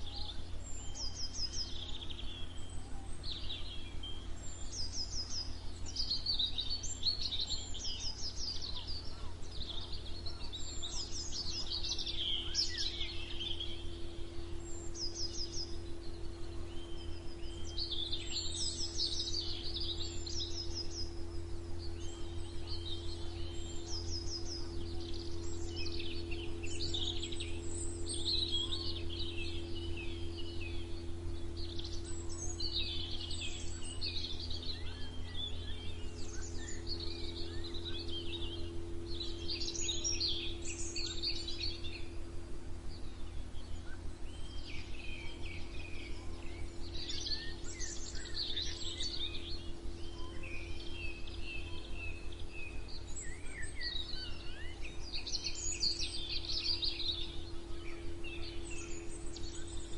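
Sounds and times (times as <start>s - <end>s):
songbirds chirping and trilling: 0.0s - 59.9s
steady low hum: 0.0s - 59.9s.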